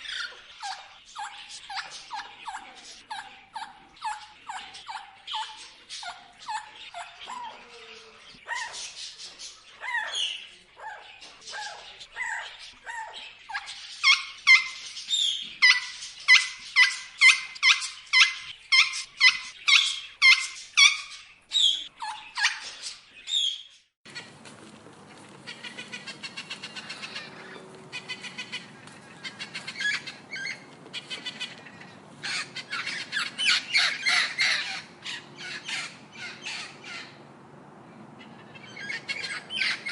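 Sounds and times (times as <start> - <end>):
parrots squawking: 0.0 - 9.2, 9.8 - 23.5, 24.1 - 37.5, 38.1 - 39.9.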